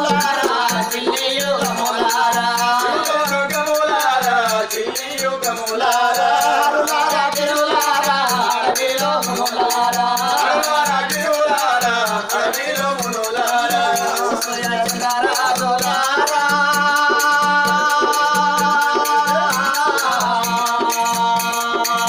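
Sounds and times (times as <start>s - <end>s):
ankle bells jingling: 0.0s - 22.0s
person singing folk melody: 0.0s - 22.0s
steady drum beat: 0.0s - 22.0s.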